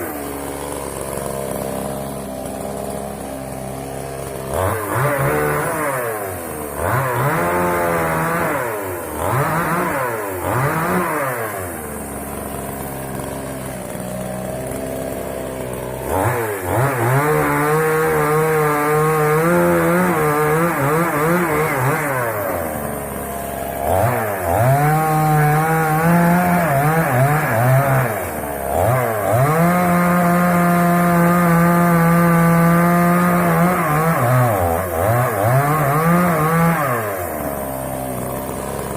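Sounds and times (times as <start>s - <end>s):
chainsaw revving and cutting wood: 0.0s - 38.9s.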